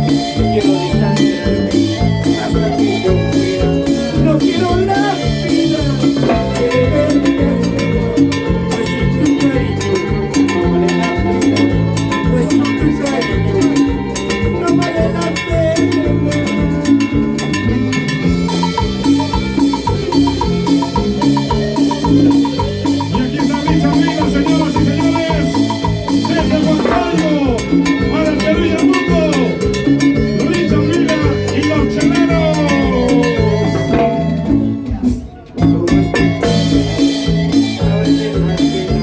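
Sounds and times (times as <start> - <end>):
salsa band playing: 0.0 - 39.0
short high notes: 0.0 - 39.0.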